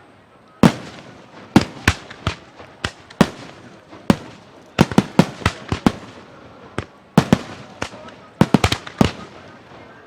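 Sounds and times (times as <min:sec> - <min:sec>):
fireworks bursting: 0:00.6 - 0:10.0.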